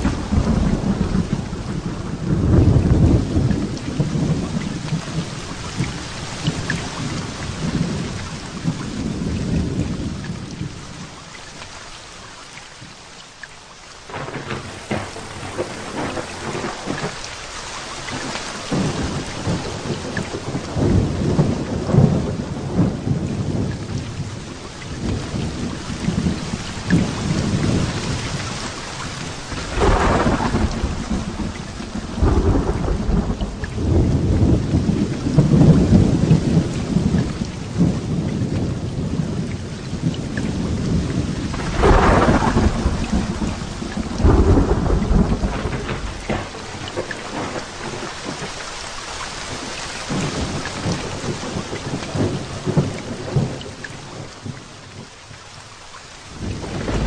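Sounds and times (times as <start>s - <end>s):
thunder cracks and rumbles: 0.0s - 10.8s, 14.1s - 17.2s, 18.1s - 48.6s, 49.4s - 55.1s, 56.3s - 57.0s
heavy rain falling: 0.0s - 57.0s.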